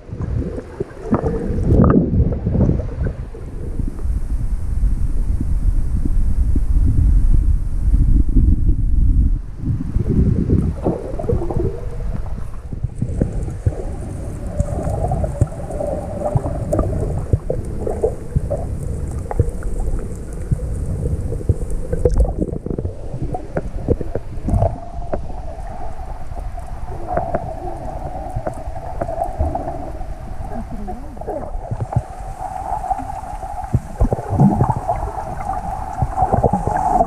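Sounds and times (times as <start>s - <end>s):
underwater clicks and crackles: 0.0s - 4.5s, 10.0s - 37.0s
underwater wash of water: 0.0s - 37.0s.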